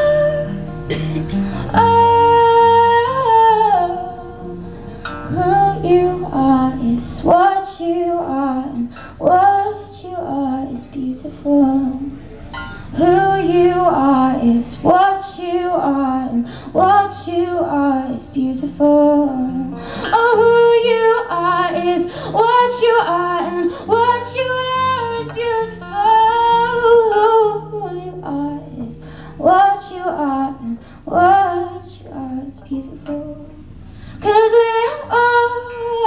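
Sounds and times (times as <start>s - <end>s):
woman singing: 0.0s - 0.7s, 1.3s - 4.5s, 5.3s - 12.2s, 12.9s - 33.6s, 34.2s - 36.0s
acoustic guitar: 0.0s - 36.0s.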